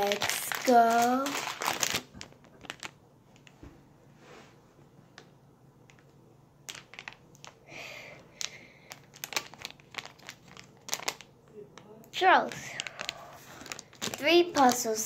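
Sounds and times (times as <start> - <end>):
plastic wrapper crinkling: 0.0 - 3.6, 5.9 - 15.0.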